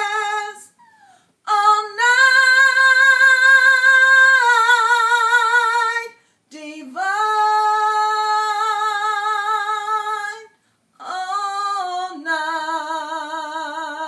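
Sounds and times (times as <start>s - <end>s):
woman singing a cappella: 0.0s - 14.0s.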